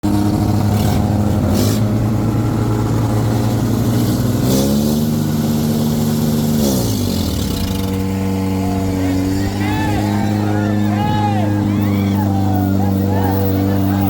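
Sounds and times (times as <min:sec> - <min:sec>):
tractor diesel engine revving: 0:00.0 - 0:14.0.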